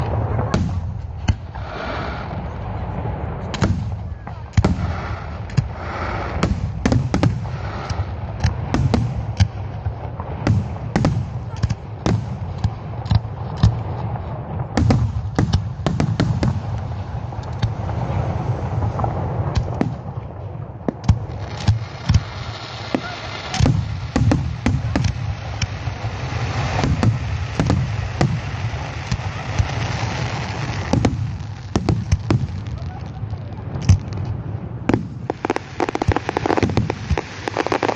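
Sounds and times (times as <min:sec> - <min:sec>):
dense fireworks crackling: 0:00.0 - 0:37.9
fireworks bangs and pops: 0:00.0 - 0:37.9.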